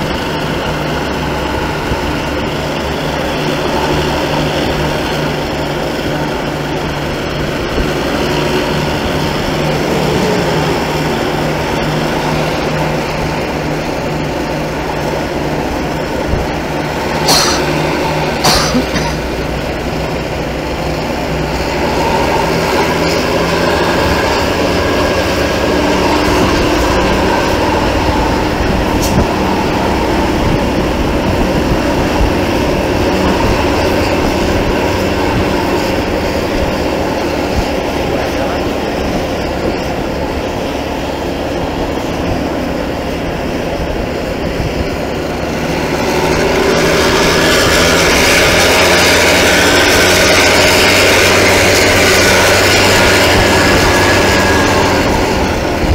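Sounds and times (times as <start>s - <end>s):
motor traffic noise: 0.0s - 55.9s
vehicle passing close: 0.0s - 55.9s.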